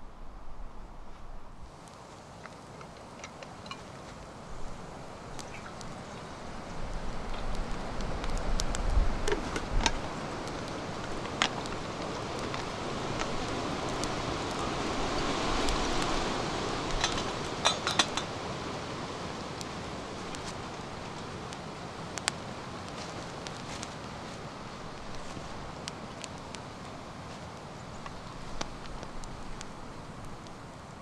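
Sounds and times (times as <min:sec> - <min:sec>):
campfire crackling and popping: 0:01.6 - 0:31.0.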